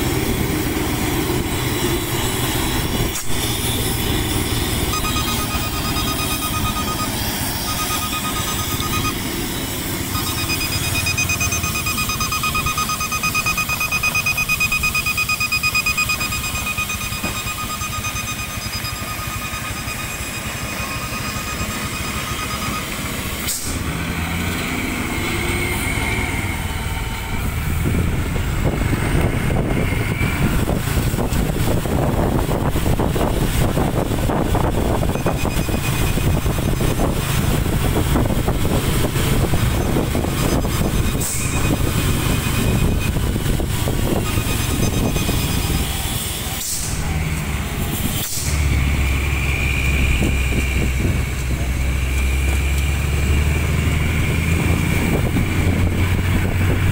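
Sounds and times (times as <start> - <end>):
high pulsing electronic tone: 0.0 - 47.4
vehicle engine and tyre rumble: 0.0 - 56.9.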